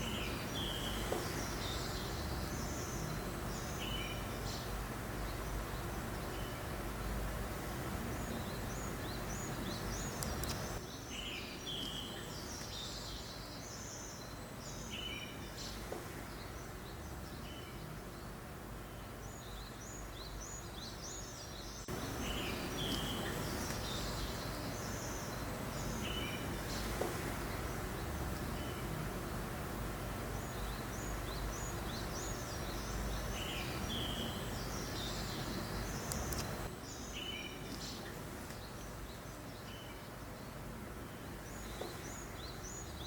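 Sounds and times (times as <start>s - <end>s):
gentle breeze hissing: 0.0s - 43.0s
small birds chirping: 0.0s - 43.0s.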